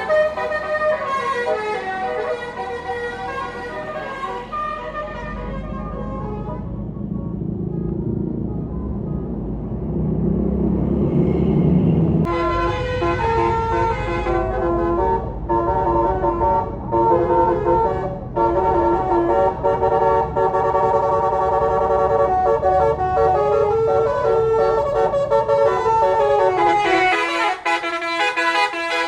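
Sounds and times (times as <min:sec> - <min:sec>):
multi-tone musical horn: 0:00.0 - 0:09.4, 0:12.3 - 0:29.0
bus engine and road rumble: 0:00.0 - 0:29.0.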